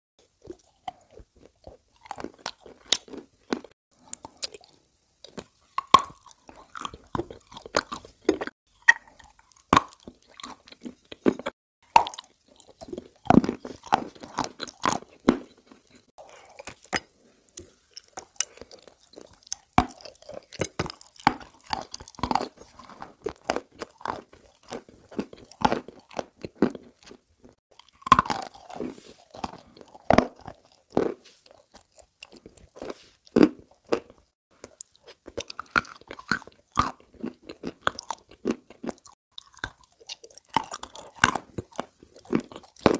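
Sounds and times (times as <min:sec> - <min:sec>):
crunchy biscuit bites and chewing: 0:00.2 - 0:42.9.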